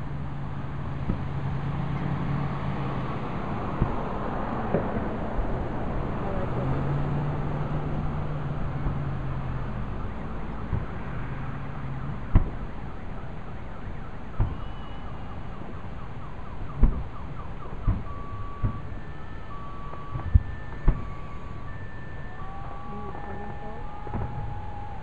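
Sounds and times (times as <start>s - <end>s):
steady background noise: 0.0s - 25.0s
fireworks booming: 0.1s - 25.0s.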